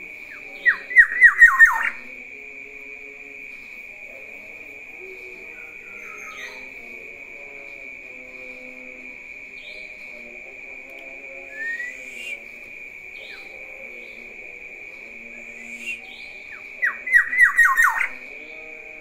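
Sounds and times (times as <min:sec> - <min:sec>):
bird singing: 0:00.0 - 0:02.2, 0:04.9 - 0:19.0.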